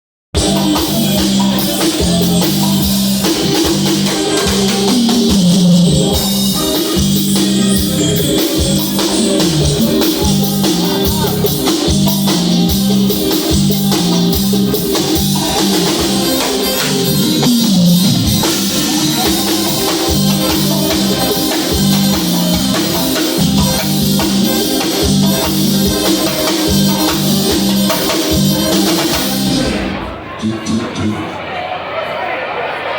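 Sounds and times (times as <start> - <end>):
drum kit: 0.3 - 31.2
guitar: 0.4 - 30.2
repeating bass line: 0.4 - 30.8
percussion: 0.4 - 31.2.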